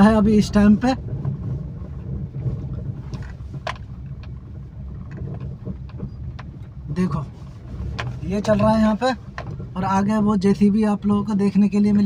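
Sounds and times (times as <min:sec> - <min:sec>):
low engine rumble: 0:00.0 - 0:12.0
faint clicks and rattles: 0:00.5 - 0:11.1.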